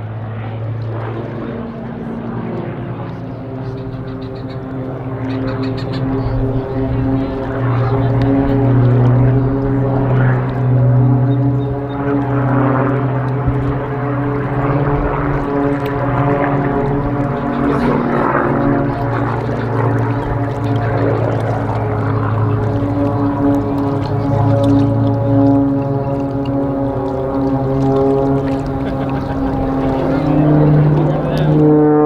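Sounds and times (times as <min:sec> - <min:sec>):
propeller aircraft engine drone: 0:00.0 - 0:32.0.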